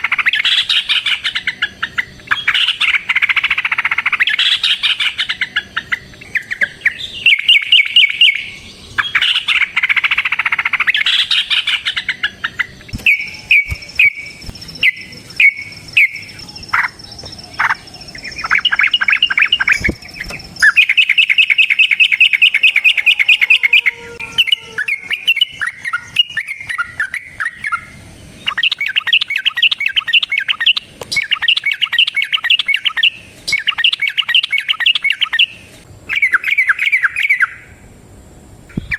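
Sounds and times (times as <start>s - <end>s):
bird singing rattling song: 0.0s - 37.8s, 38.7s - 38.9s.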